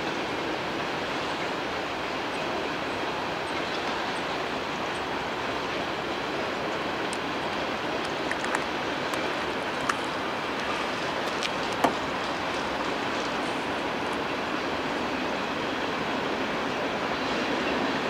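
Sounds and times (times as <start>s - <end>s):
freight cars rumbling over bridge: 0.0s - 18.0s.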